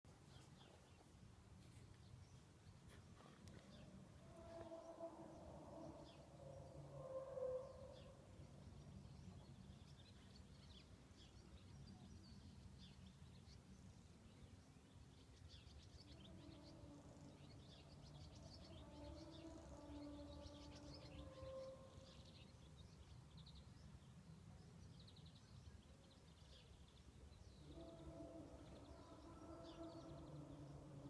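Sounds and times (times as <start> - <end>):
faint birds chirping: 0.1 - 31.0.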